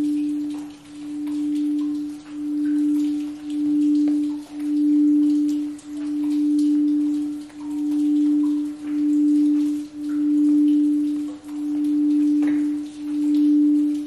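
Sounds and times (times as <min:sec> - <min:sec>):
singing bowl low tone: 0:00.0 - 0:14.0.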